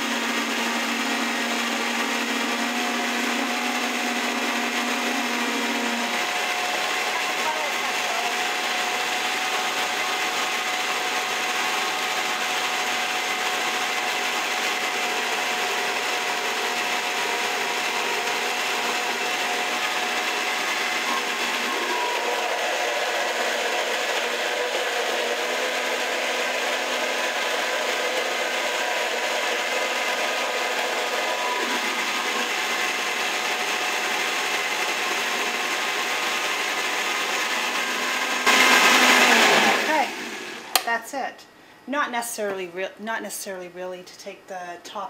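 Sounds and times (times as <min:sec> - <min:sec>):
blender motor running: 0:00.0 - 0:40.9.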